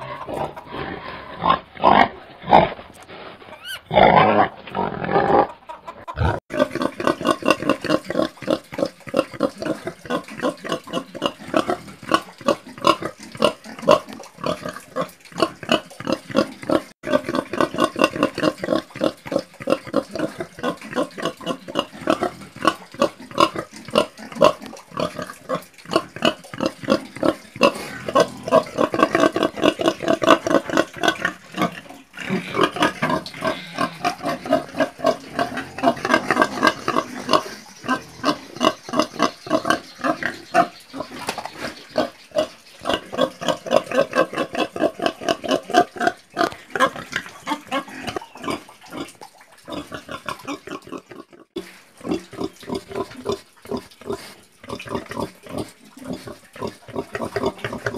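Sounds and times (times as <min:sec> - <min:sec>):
pigs grunting: 0:00.0 - 0:57.9.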